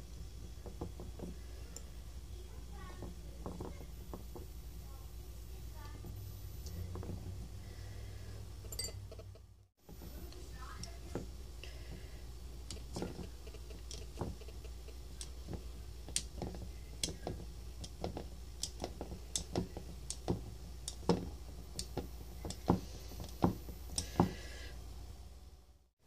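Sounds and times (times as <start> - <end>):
faint low hum: 0.0 - 25.9.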